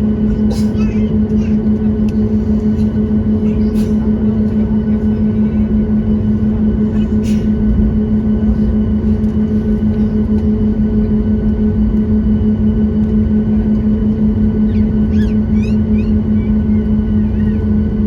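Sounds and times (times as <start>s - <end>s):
airplane cabin hum: 0.0s - 18.0s.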